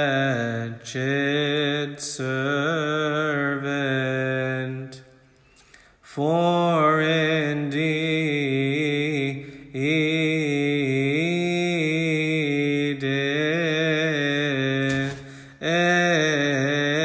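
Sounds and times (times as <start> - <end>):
solo voice chanting a hymn: 0.0 - 5.2, 6.0 - 17.0.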